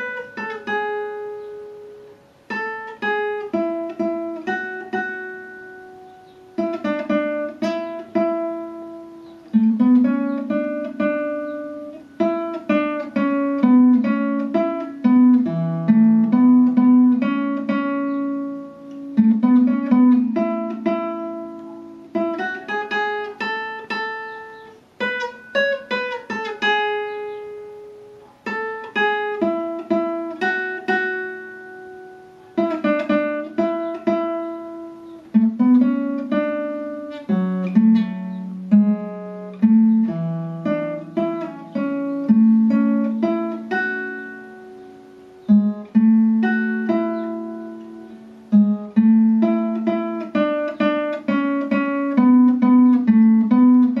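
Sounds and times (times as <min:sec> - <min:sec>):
fingerstyle classical guitar: 0:00.0 - 0:54.0.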